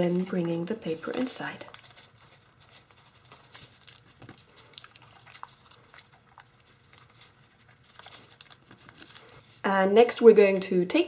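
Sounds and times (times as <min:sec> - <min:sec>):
foil paper crinkling: 0:00.0 - 0:09.6.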